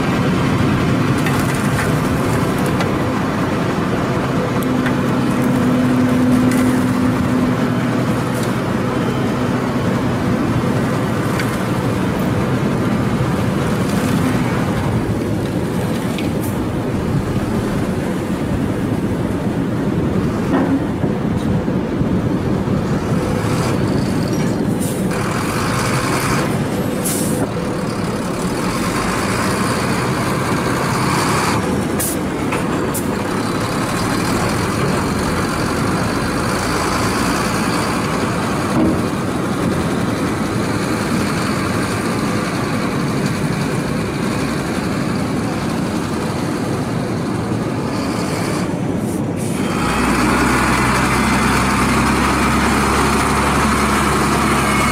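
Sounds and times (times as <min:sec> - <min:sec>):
heavy diesel truck engine running: 0:00.0 - 0:54.9.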